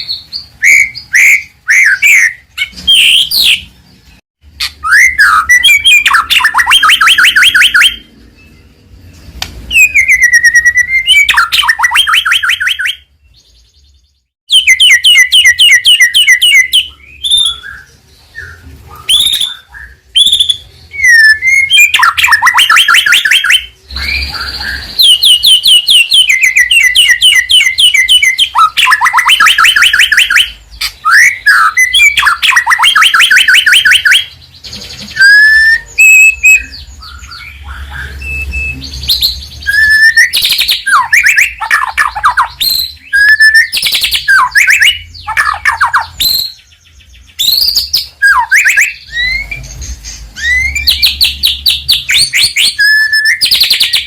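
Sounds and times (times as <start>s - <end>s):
songbird whistling and rattling: 0.0s - 3.8s, 4.6s - 54.0s.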